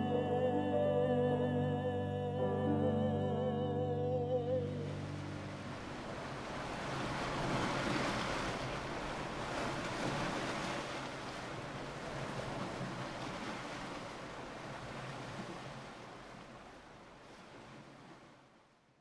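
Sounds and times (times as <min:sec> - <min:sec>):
sea waves surf: 0:00.0 - 0:18.6.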